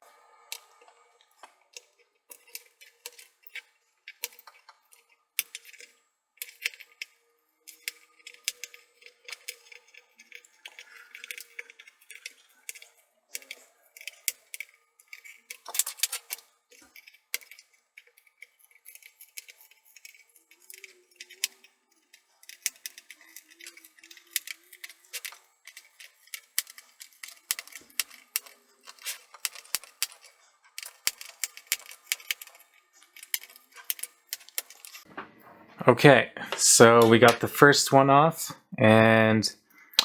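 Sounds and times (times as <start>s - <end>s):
screwdriver clicking and scraping plastic: 0.5s - 35.1s.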